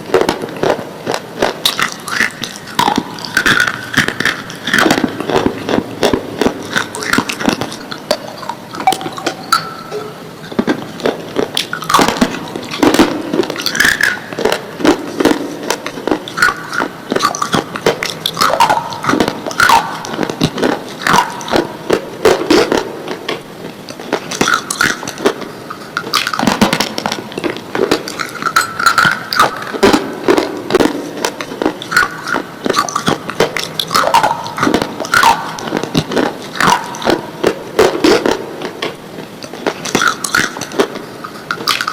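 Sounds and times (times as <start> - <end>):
pencils being chewed crunching: 0.0 - 41.9.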